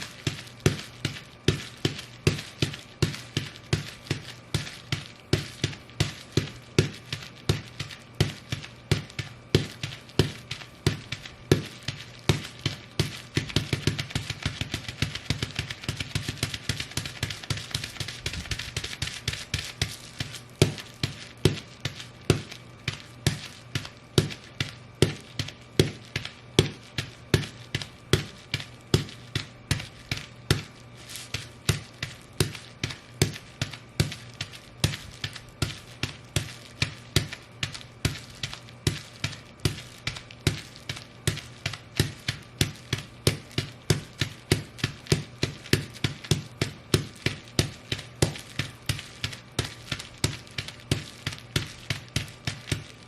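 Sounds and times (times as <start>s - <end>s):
boots stomping on bubble wrap: 0.0s - 53.0s.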